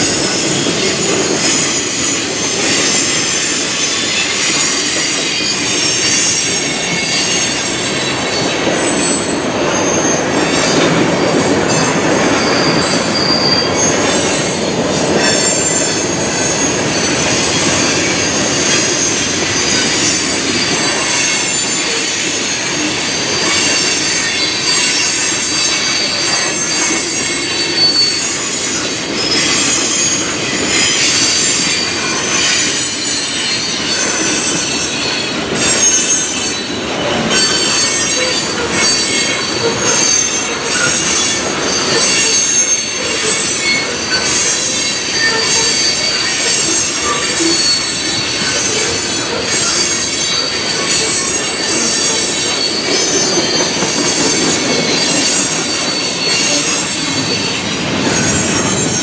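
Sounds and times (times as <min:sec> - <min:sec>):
freight train rolling past: 0:00.0 - 0:59.0
high-pitched wheel squeal: 0:00.0 - 0:59.0.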